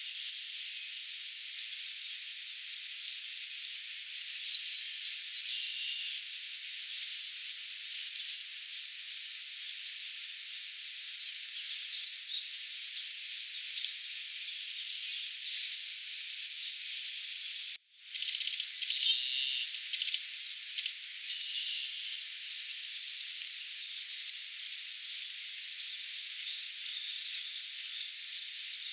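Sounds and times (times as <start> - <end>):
small birds chirping: 0.0 - 28.9
steady outdoor hiss: 0.0 - 28.9.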